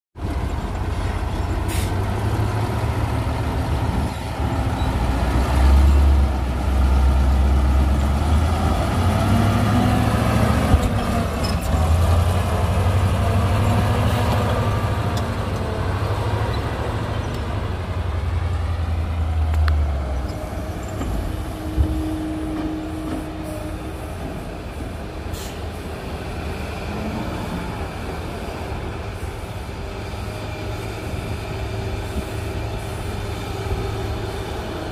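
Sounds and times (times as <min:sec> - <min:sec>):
heavy diesel engines rumbling: 0:00.2 - 0:34.9.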